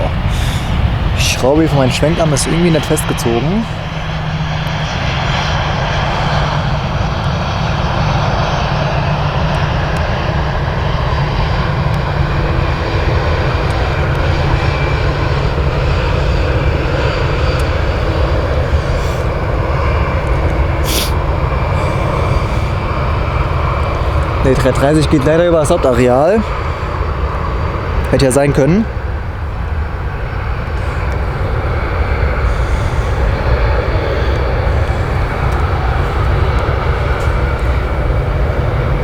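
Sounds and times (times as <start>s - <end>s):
jet engines rumbling: 0.0s - 39.0s.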